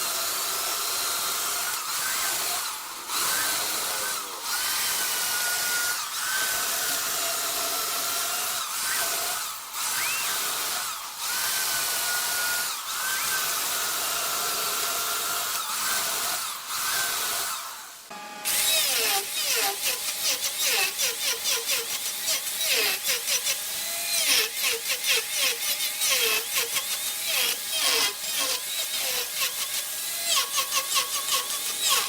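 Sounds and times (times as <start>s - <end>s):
lathe tool shaving wood: 0.0s - 17.9s, 18.5s - 32.0s.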